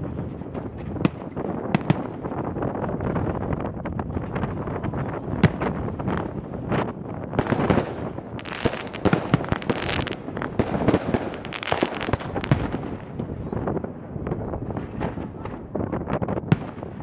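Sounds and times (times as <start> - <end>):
fireworks bursting: 0.3 - 17.0.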